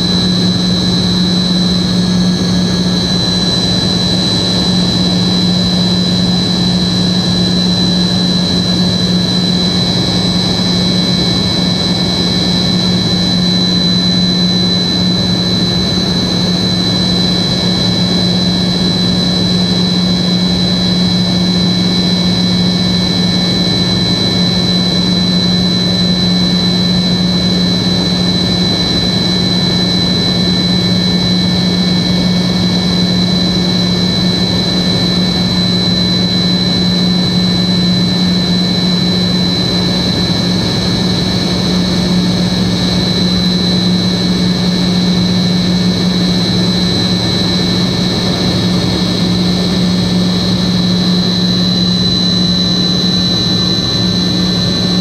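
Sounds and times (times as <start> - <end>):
low engine drone: 0.0 - 55.0
turbofan engines whining: 0.0 - 55.0.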